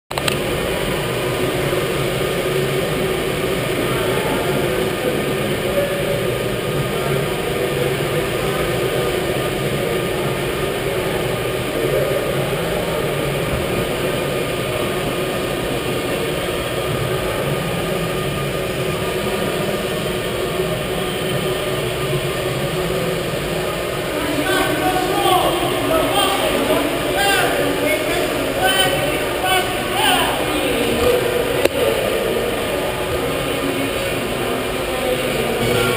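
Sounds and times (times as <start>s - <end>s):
mechanical din of kart hall: 0.1s - 35.9s
faint voices: 0.4s - 35.9s.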